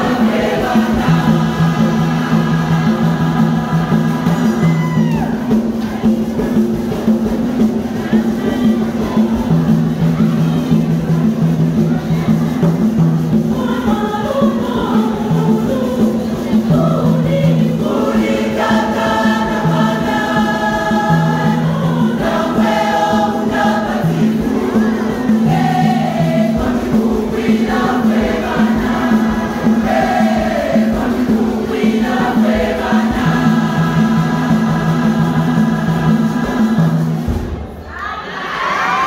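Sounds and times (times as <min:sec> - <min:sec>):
wooden hand drums: 0:00.0 - 0:38.7
choir singing a hymn: 0:00.0 - 0:39.0.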